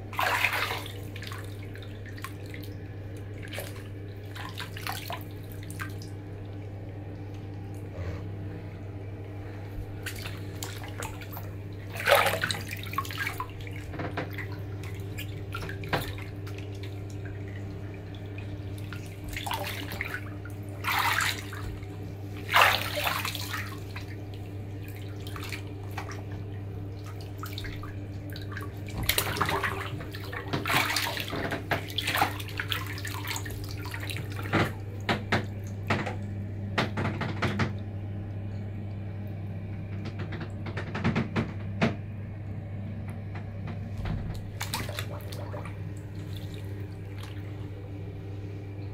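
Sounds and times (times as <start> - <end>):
bathwater splashing: 0.0 - 7.9, 9.3 - 36.0, 44.0 - 48.9
steady low hum: 0.0 - 48.9.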